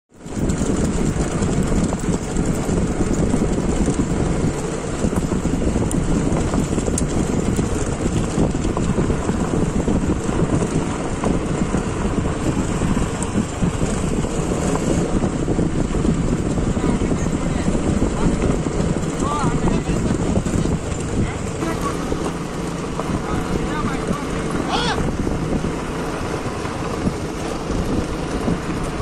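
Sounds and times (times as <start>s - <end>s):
vehicle road and engine noise: 0.1s - 29.0s
wind buffeting microphone: 0.1s - 29.0s.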